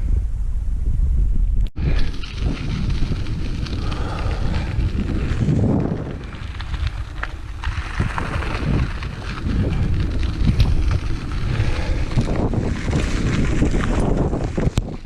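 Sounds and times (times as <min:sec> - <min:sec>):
wind rumbling on microphone: 0:00.0 - 0:15.0
small ticks and rattles: 0:01.9 - 0:15.0.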